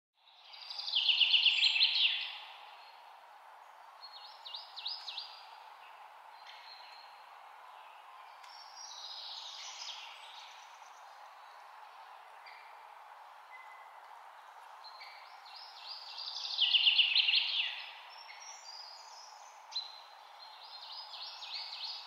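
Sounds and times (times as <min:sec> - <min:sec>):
songbirds singing: 0:00.2 - 0:22.0
steady background hiss: 0:00.2 - 0:22.0.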